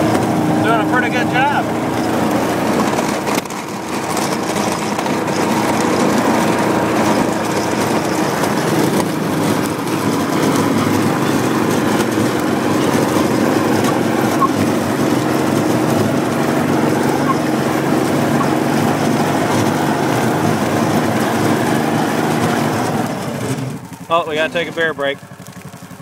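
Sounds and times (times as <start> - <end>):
plow blade pushing snow: 0.0 - 26.0
utility vehicle engine running: 0.0 - 26.0.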